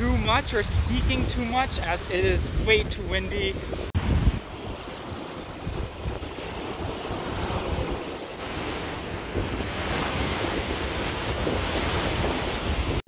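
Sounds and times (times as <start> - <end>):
waves washing over cobblestones: 0.0 - 13.0
wind buffeting microphone: 0.0 - 13.0.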